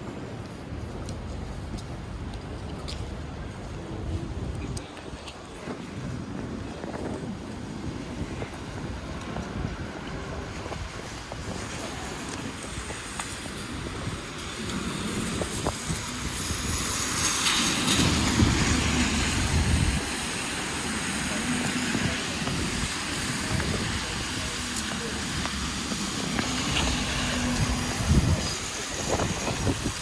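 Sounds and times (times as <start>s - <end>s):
street traffic passing: 0.0s - 30.0s
vehicle engine rumble: 0.0s - 30.0s.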